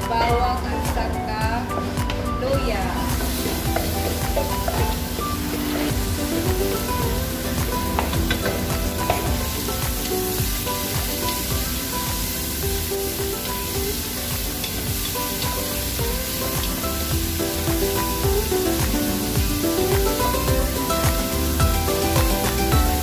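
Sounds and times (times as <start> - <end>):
onions sizzling in a pot: 2.7 - 23.0.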